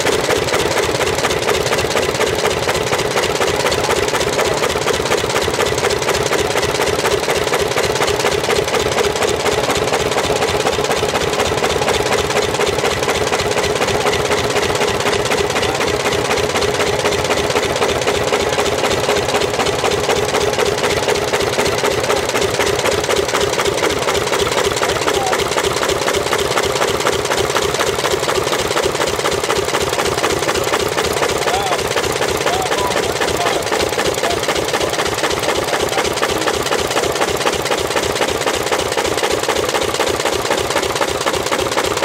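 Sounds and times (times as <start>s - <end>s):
engine mechanical clatter: 0.0s - 42.0s.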